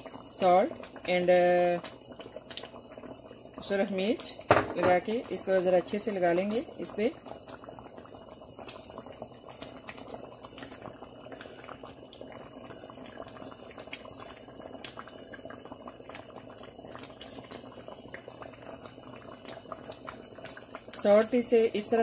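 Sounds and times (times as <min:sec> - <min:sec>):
water simmering with pops: 0:00.0 - 0:22.0.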